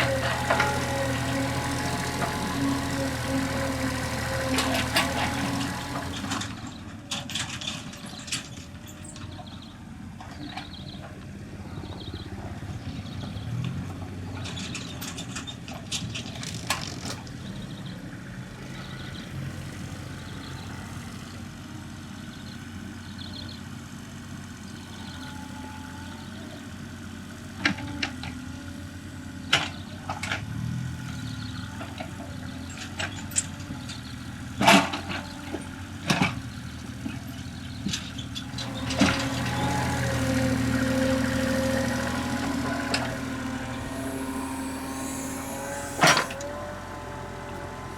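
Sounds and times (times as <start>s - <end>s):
diesel excavator engine: 0.0s - 47.9s.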